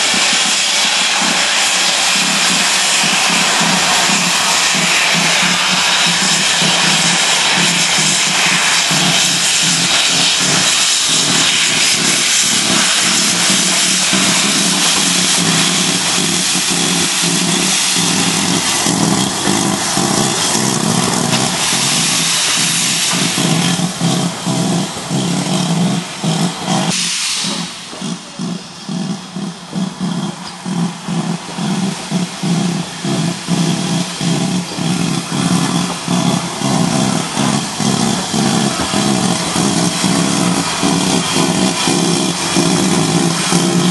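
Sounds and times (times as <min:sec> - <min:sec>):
steam hissing: 0:00.0 - 0:43.9
steam locomotive chuffing: 0:00.0 - 0:43.9.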